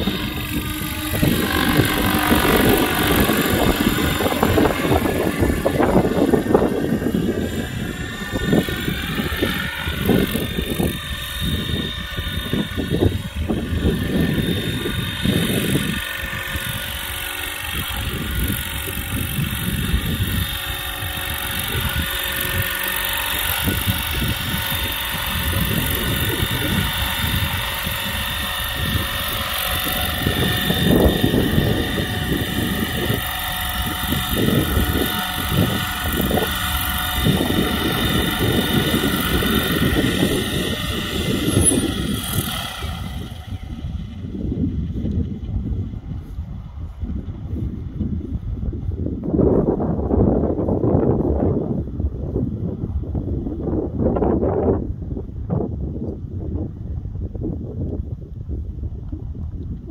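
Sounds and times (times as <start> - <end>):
model helicopter motor whine: 0.0 - 59.9
wind buffeting microphone: 0.0 - 59.9.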